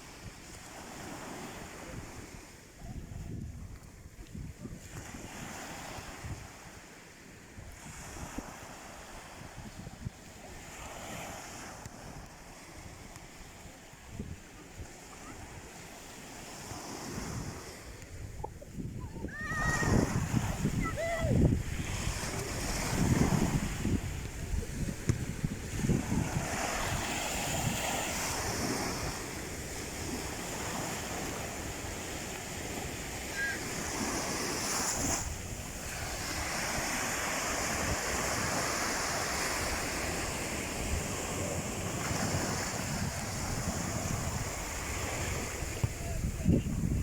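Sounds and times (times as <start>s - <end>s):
wind on microphone: 0.0s - 47.0s
sea waves breaking: 4.8s - 47.0s.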